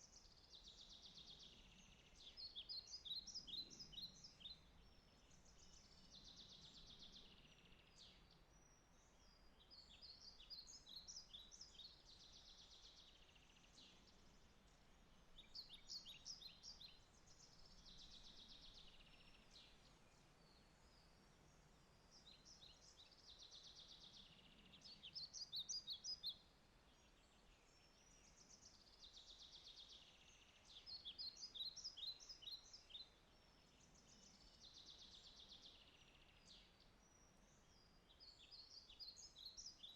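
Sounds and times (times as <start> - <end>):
low steady background hiss: 0.0 - 39.9
songbird song with buzzy trill: 0.0 - 39.9.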